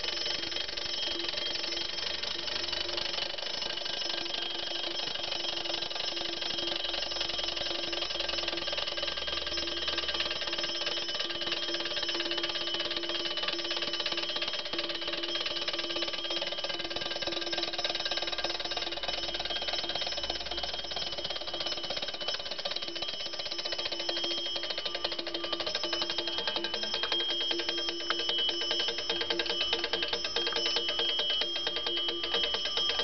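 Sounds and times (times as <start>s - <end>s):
alarm clock bell ringing: 0.0s - 33.0s.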